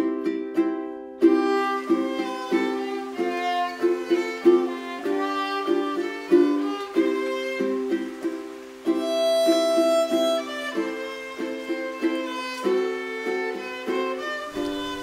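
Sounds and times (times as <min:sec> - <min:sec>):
background music with strummed chords: 0:00.0 - 0:15.0.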